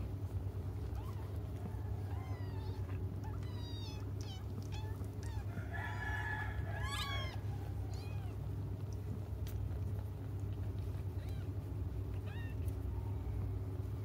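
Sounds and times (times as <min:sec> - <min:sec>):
steady low hum: 0:00.0 - 0:14.0
kittens mewing: 0:00.8 - 0:13.4.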